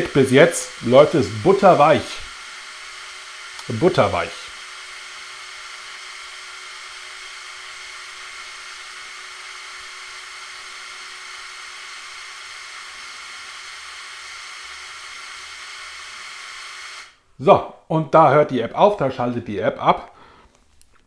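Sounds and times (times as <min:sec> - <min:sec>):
electric motor whine: 0:00.0 - 0:17.2.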